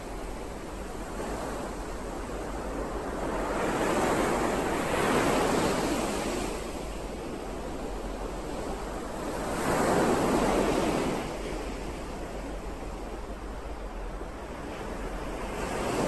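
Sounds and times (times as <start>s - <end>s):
ocean waves: 0.0s - 16.0s.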